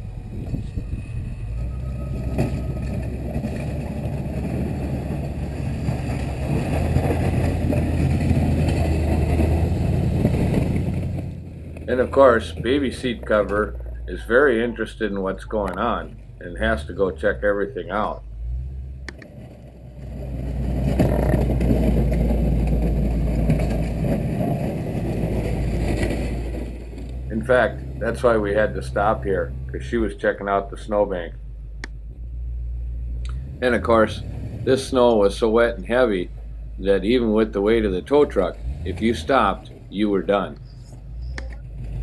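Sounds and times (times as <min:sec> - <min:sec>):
plow blade pushing snow: 0:00.0 - 0:31.7, 0:32.3 - 0:42.0
truck engine rumbling: 0:00.0 - 0:42.0.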